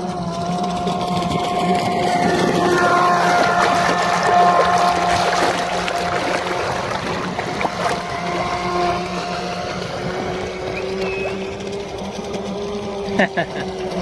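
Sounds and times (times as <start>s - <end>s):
model boat motor whining: 0.0s - 14.0s
water splashing: 0.6s - 13.0s.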